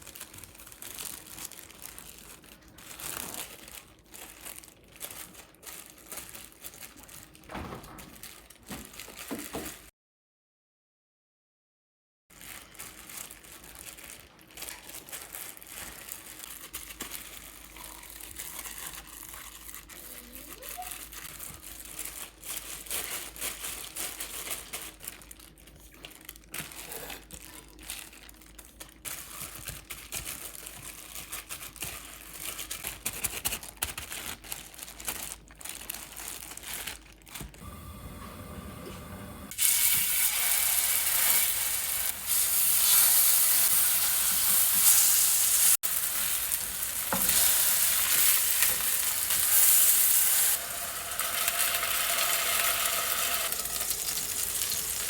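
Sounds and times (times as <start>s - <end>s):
plastic crinkling and rustling: 0.0s - 9.9s, 12.3s - 37.8s, 39.5s - 55.0s.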